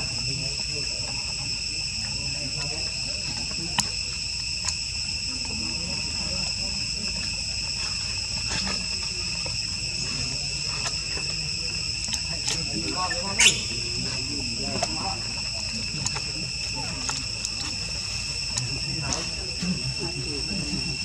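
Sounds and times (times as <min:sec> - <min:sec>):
insects chorus ringing: 0:00.0 - 0:21.0.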